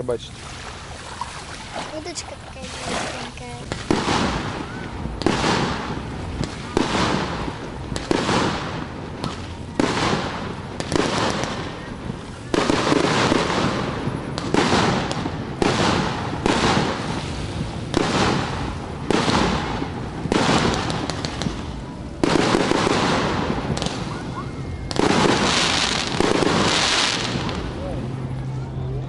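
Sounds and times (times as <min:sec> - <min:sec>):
fireworks bursting: 0:01.7 - 0:28.6.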